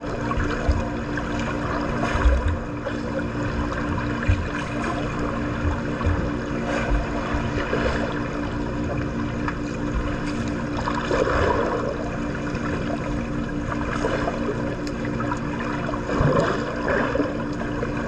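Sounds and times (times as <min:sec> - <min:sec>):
steady low hum: 0:00.0 - 0:18.0
water splashing in a pool: 0:00.0 - 0:18.0.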